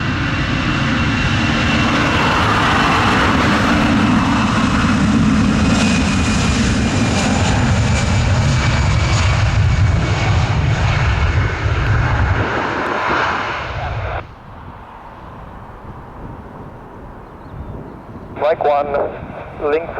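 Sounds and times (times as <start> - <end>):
airliner engines passing: 0.0 - 19.9.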